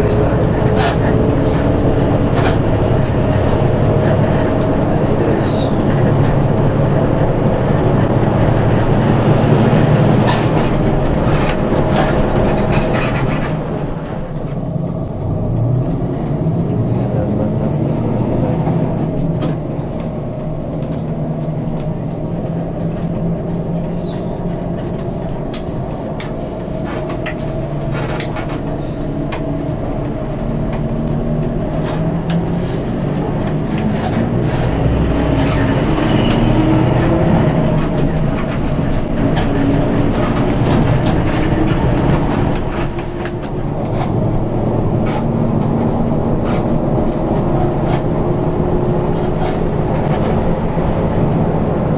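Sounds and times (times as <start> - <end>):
bus engine running: 0.0 - 51.9
road noise: 0.0 - 51.9
small rattles and clicks: 0.0 - 51.9.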